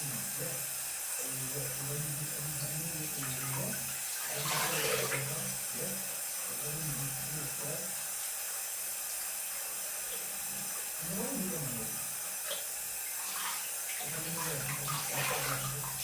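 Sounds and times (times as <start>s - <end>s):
tap water running into sink: 0.0s - 11.1s, 11.8s - 16.0s.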